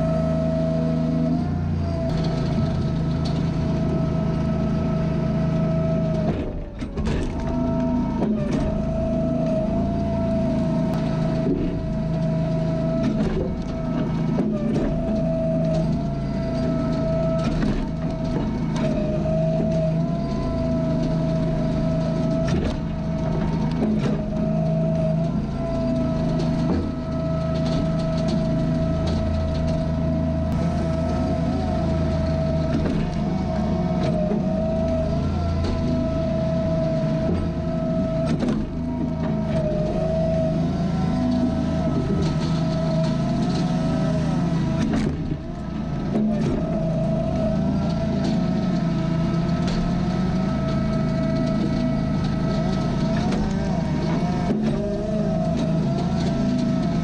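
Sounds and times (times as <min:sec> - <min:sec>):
constant whine: 0:00.0 - 0:57.0
engine running: 0:00.0 - 0:57.0.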